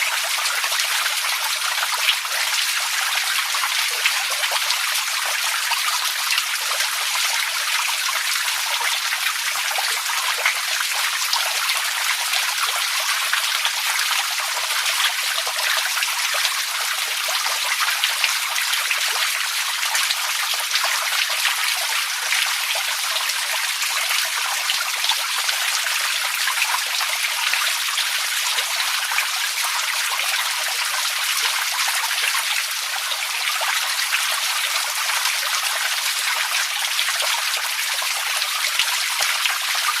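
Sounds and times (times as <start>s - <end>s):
water trickling and splashing: 0.0s - 40.0s.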